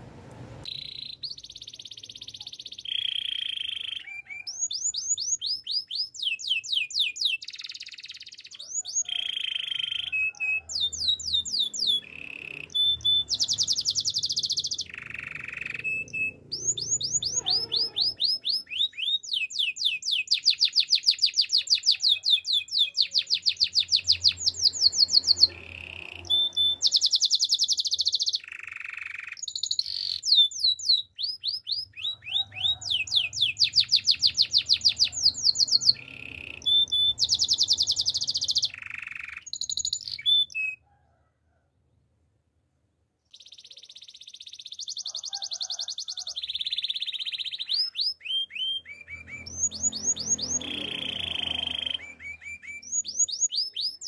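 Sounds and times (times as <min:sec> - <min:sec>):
canary singing: 0:00.5 - 0:40.8, 0:43.3 - 0:54.0.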